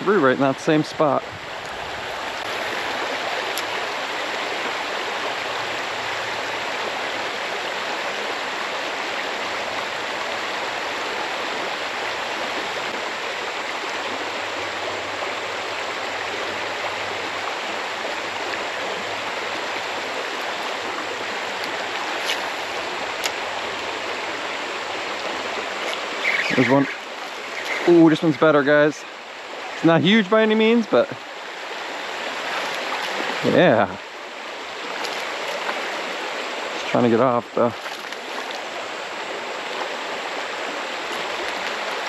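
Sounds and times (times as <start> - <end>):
creek water rushing: 0.0 - 42.0.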